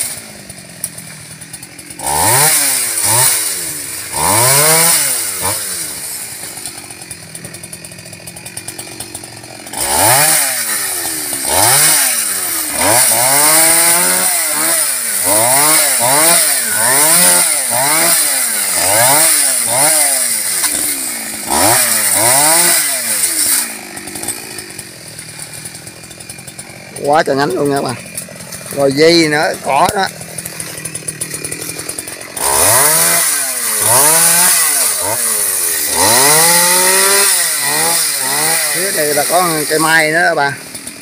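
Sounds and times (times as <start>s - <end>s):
chainsaw idling and revving: 0.0s - 41.0s.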